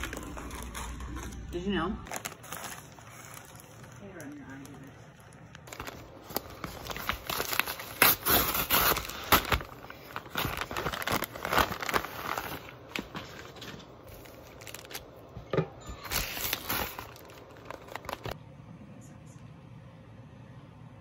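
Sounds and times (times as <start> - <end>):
packaging crinkling and rustling: 0.0 - 15.3, 15.9 - 18.4.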